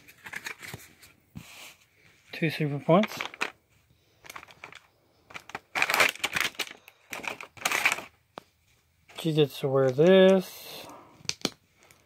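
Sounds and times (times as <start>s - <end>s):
plastic and cardboard packaging rustling: 0.0s - 10.5s.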